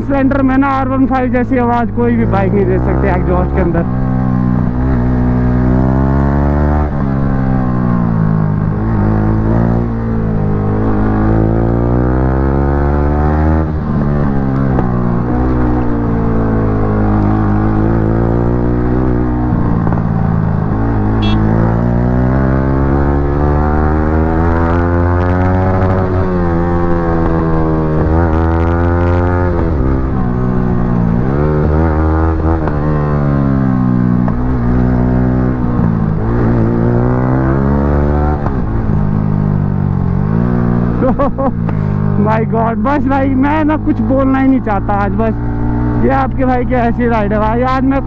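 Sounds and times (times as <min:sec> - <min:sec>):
motorcycle engine revving: 0:02.5 - 0:42.5, 0:43.4 - 0:46.2.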